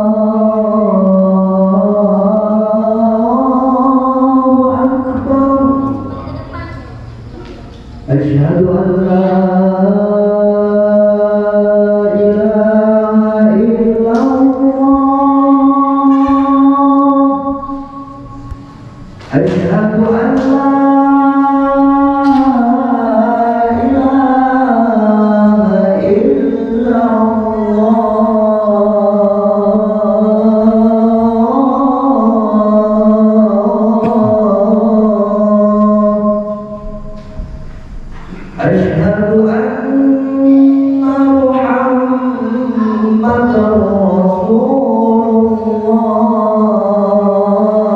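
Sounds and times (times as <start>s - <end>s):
man chanting call to prayer: 0.0s - 37.6s, 38.2s - 47.9s.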